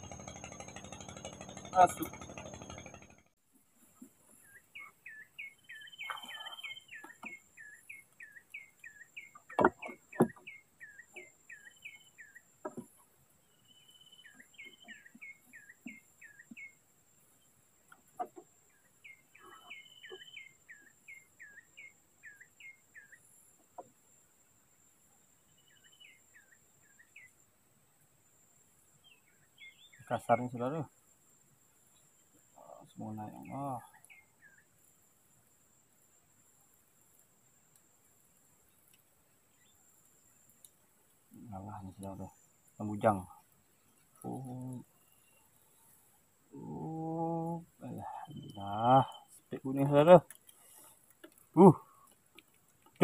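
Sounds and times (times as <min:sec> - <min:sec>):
bird singing: 0:03.9 - 0:23.9, 0:24.8 - 0:27.4, 0:28.8 - 0:30.9, 0:31.7 - 0:35.0, 0:38.4 - 0:53.0.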